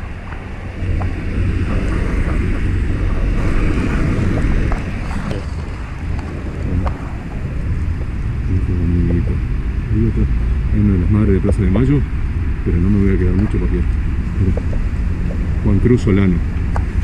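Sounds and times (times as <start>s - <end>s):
cars driving past: 0.0s - 17.0s
wind buffeting microphone: 0.0s - 17.0s.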